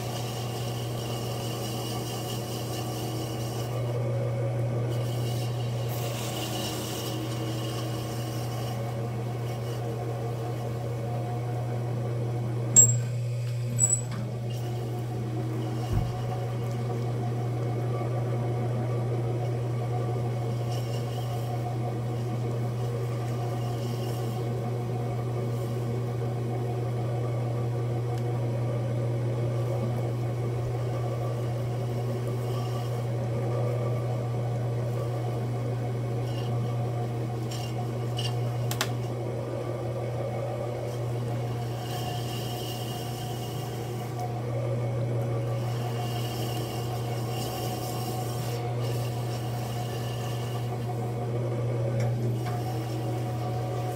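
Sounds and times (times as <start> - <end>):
potter's wheel motor humming: 0.0 - 53.9.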